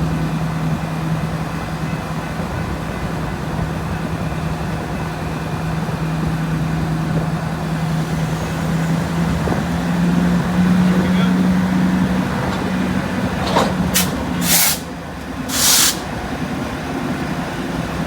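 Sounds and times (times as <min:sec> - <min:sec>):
locomotive engine running: 0:00.0 - 0:18.0.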